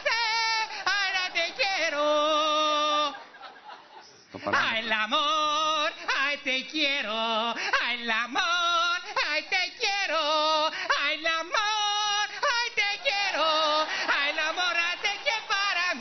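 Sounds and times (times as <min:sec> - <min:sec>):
man singing with heavy vibrato: 0:00.0 - 0:03.3, 0:04.4 - 0:16.0.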